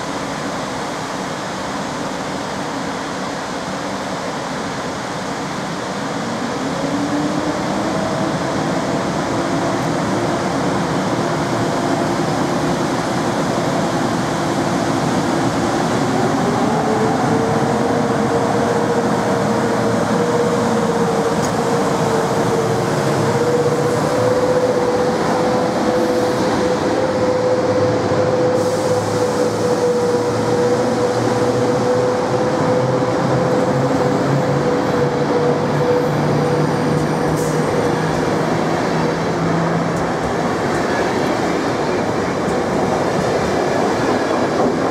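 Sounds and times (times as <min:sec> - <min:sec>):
electric locomotive whine: 0:00.0 - 0:44.9.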